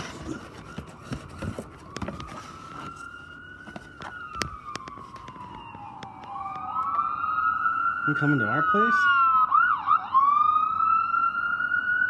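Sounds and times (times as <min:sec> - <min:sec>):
ambulance siren wailing: 0:00.0 - 0:12.0.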